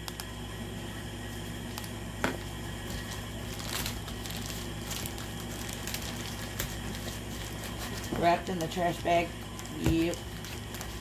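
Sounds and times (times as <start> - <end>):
steady low hum: 0.0 - 11.0
plastic bag crinkling: 1.2 - 11.0.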